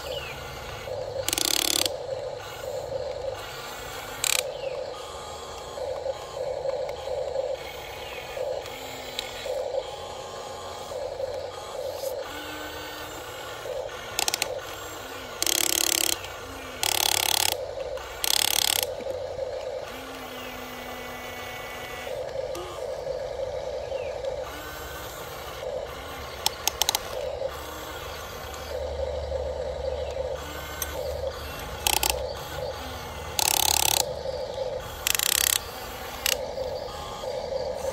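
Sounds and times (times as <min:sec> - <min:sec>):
electric gear motors whirring: 0:00.0 - 0:37.9
loud rasping bursts: 0:00.0 - 0:37.9.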